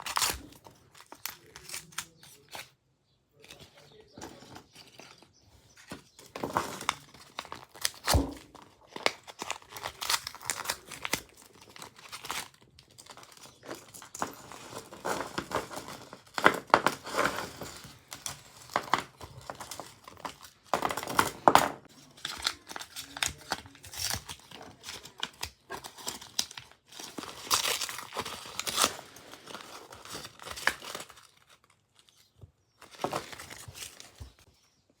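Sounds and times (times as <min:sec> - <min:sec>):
packaging crinkling and tearing: 0:00.0 - 0:02.8, 0:04.8 - 0:34.5.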